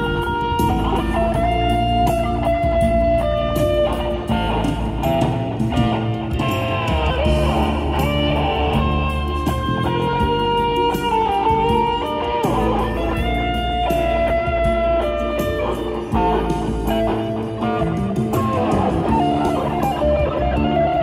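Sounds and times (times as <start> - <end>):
backing track with bass: 0.0 - 21.0
electric guitar lead: 0.0 - 21.0.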